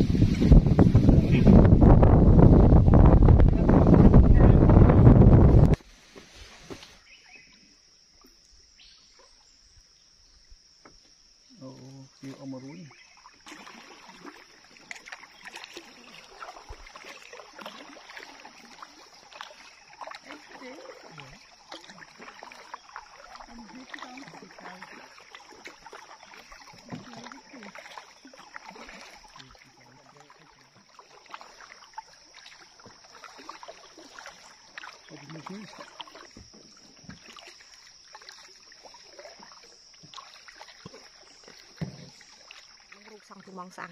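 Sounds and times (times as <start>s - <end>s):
paddle splashing water: 0.0s - 43.9s.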